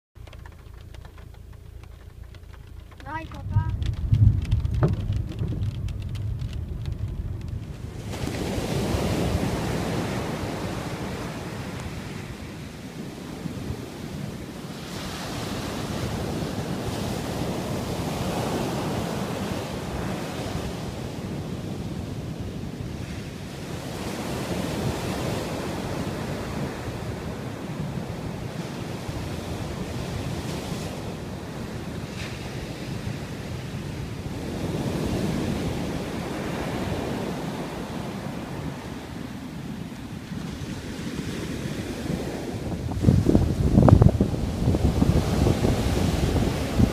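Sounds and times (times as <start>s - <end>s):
wind buffeting microphone: 0.2s - 46.9s
surf breaking on beach: 0.4s - 46.9s.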